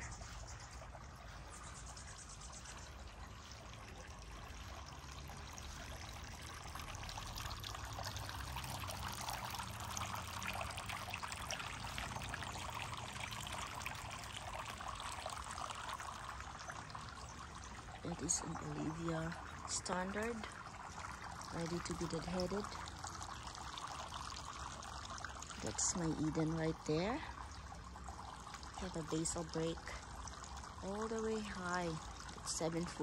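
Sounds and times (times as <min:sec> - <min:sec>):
trickling running water: 0:00.0 - 0:33.0.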